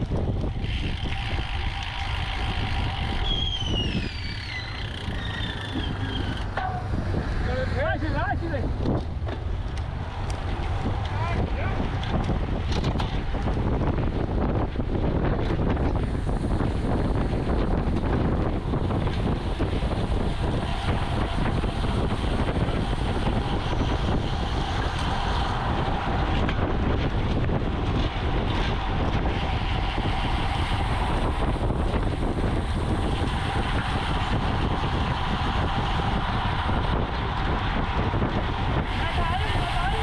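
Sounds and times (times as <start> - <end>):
tyre and road noise: 0.0 - 40.0
wind buffeting microphone: 0.0 - 40.0.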